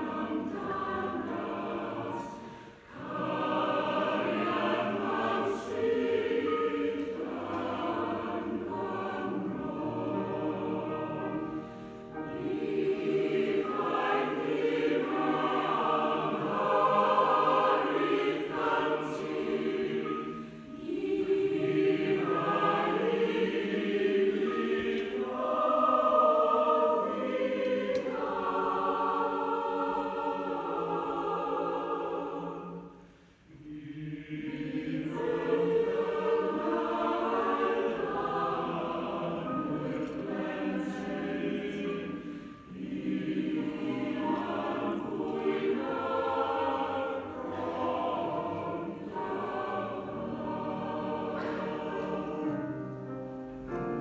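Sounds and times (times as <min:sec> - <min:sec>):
large choir singing: 0:00.0 - 0:54.0.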